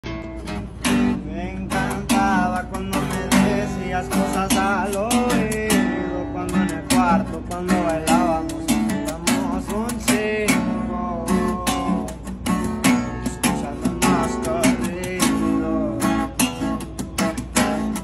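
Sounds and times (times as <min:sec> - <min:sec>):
acoustic bass guitar: 0:00.0 - 0:18.0
acoustic guitar lead with bent notes: 0:00.0 - 0:18.0
strummed guitar chords: 0:00.0 - 0:18.0.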